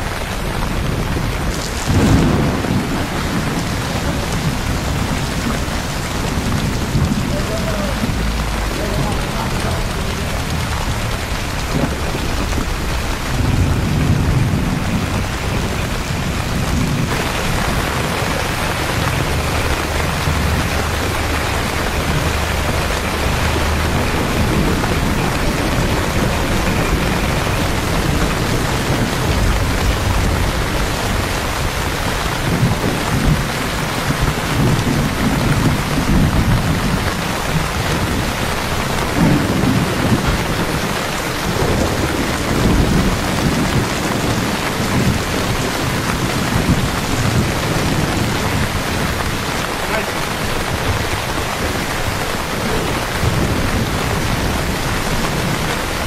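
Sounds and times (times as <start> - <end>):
deep rolling thunder: 0.0 - 56.0
heavy rain on street: 0.0 - 56.0.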